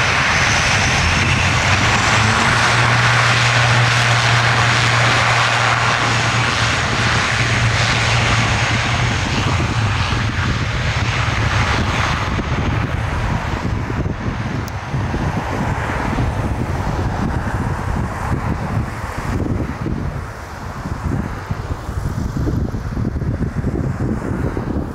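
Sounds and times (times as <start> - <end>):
low propeller drone: 0.0 - 24.9.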